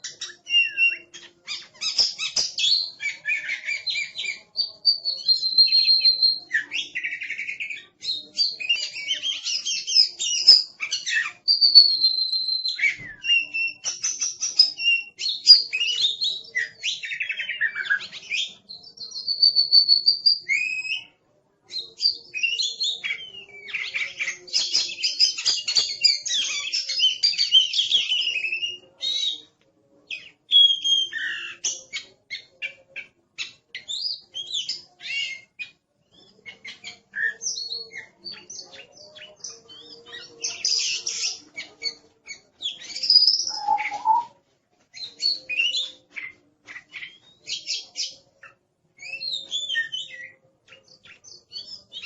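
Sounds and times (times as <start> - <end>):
bird singing whistles and chatter: 0.0 - 21.1, 21.7 - 52.0.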